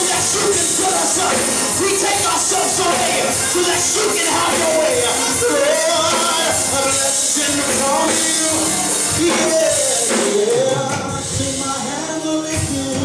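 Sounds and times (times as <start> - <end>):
man singing gospel: 0.0 - 13.0
sustained backing chords: 0.0 - 13.0.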